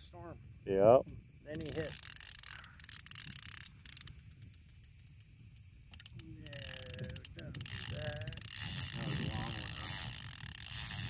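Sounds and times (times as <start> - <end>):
fishing reel ratcheting: 1.5 - 11.0.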